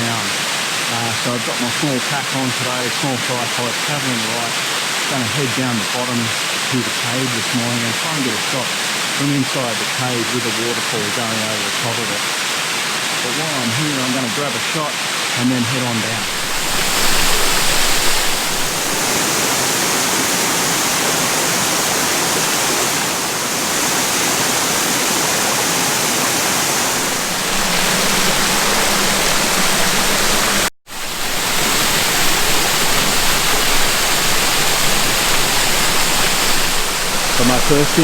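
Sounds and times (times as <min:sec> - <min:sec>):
waterfall rushing over rock: 0:00.0 - 0:38.0.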